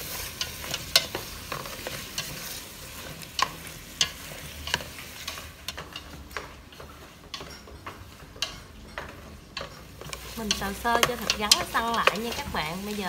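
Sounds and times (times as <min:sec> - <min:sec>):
chopsticks clicking against pot: 0:00.0 - 0:13.0
faint sizzle: 0:00.0 - 0:13.0.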